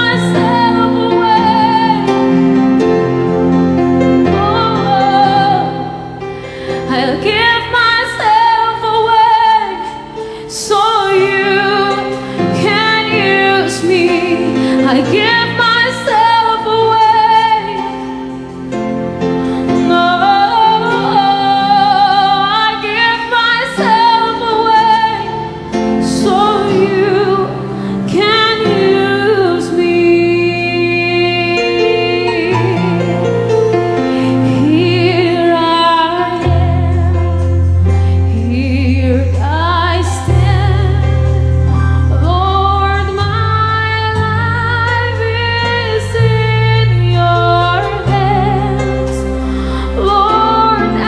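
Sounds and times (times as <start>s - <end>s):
instrumental accompaniment with bass: 0.0s - 51.0s
woman singing worship song: 4.1s - 18.3s, 19.5s - 33.4s, 34.2s - 51.0s.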